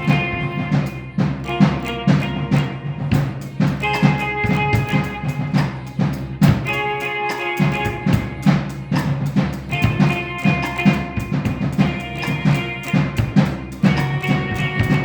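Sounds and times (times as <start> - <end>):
electric guitar percussive strumming: 0.0 - 15.0.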